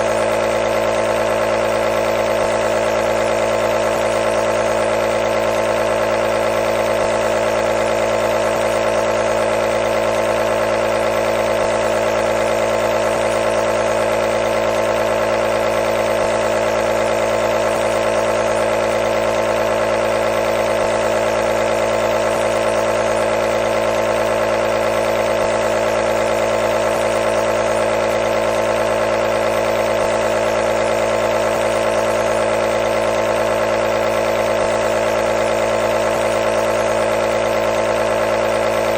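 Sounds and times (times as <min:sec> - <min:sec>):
nebulizer motor humming: 0:00.0 - 0:38.9.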